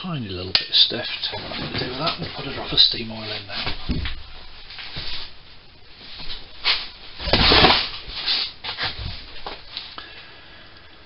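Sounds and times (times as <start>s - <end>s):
rustling and handling noises: 0.9s - 10.0s.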